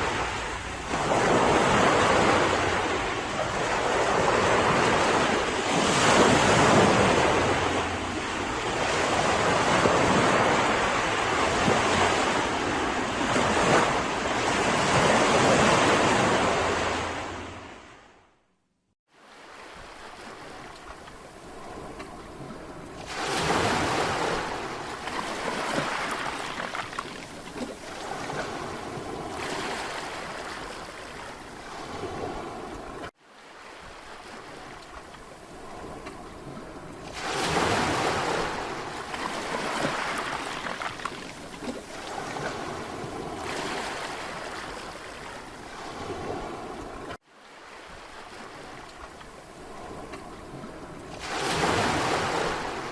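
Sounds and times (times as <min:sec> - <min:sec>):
sea waves washing onto beach: 0:00.0 - 0:17.9, 0:19.1 - 0:52.9.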